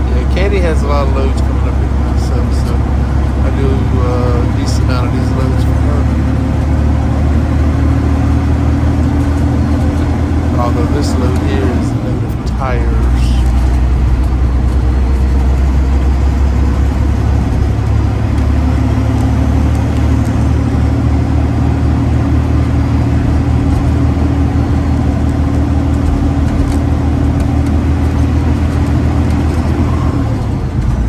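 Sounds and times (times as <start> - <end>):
truck diesel engine droning: 0.0 - 31.0.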